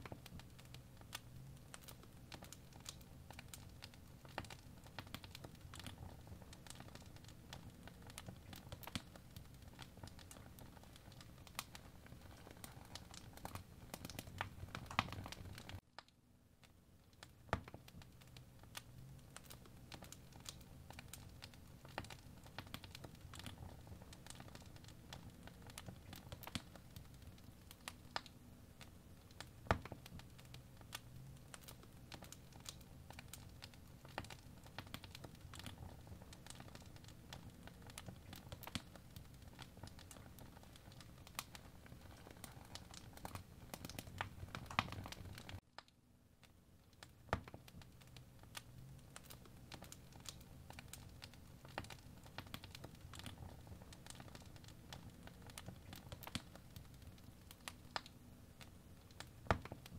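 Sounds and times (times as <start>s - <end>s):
faint ticking and crackling: 0.0s - 59.9s.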